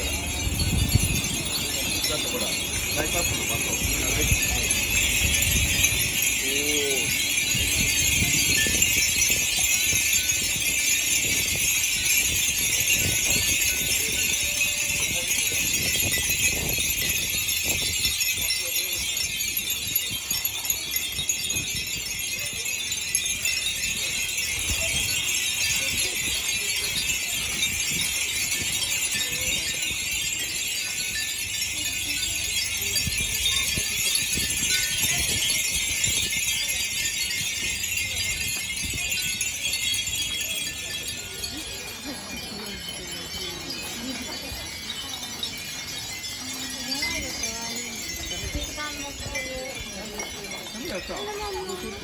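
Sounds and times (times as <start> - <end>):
wind bells tinkling: 0.0 - 52.0.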